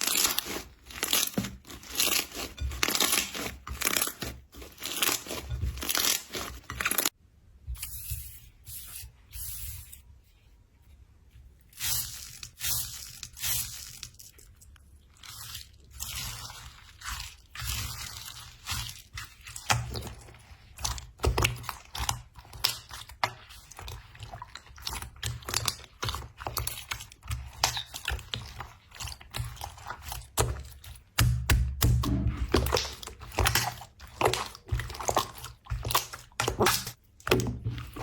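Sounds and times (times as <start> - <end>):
slime squishing and crackling: 0.0 - 7.2, 11.7 - 38.0.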